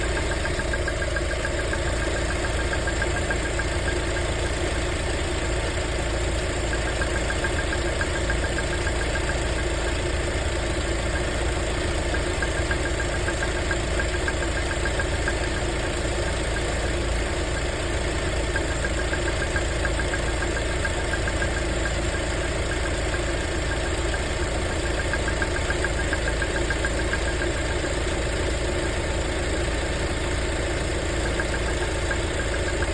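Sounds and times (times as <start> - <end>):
car engine idling with light knock: 0.0 - 32.9.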